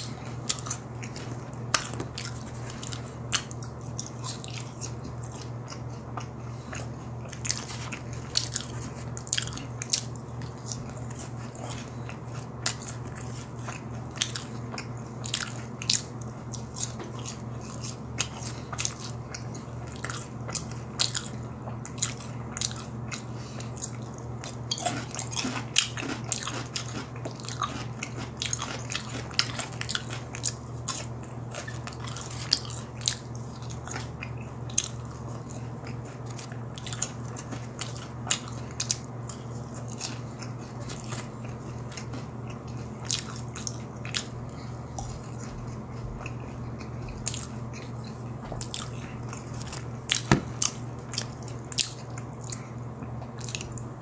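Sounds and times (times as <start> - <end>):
person crunching fried food: 0.1 - 52.7.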